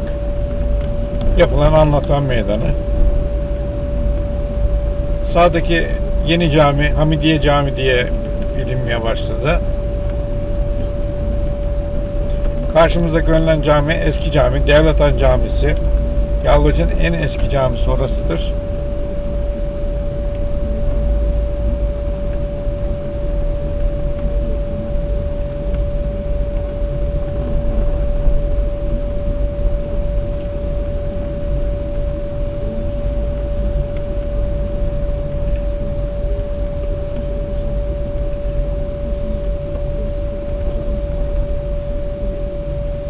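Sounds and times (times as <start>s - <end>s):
car driving rumble: 0.0s - 42.1s
steady single-pitch whine: 0.0s - 43.0s.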